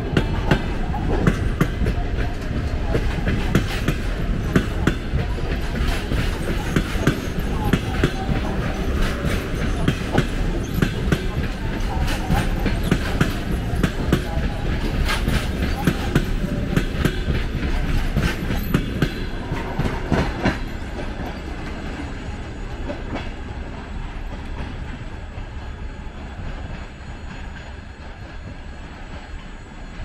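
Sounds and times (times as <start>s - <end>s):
train wheels clicking over rail joints: 0.0s - 29.7s
train rumble: 0.0s - 30.0s.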